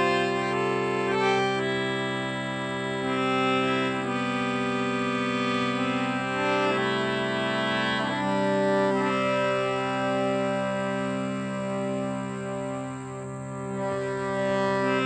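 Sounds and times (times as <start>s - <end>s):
harmonium playing slow melody: 0.0s - 15.0s.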